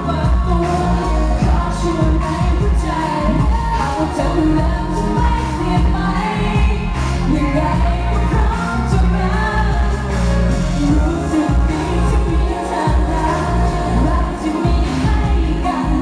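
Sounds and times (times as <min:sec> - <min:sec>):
pop backing track with heavy bass: 0:00.0 - 0:16.0
woman singing into a microphone: 0:00.0 - 0:16.0.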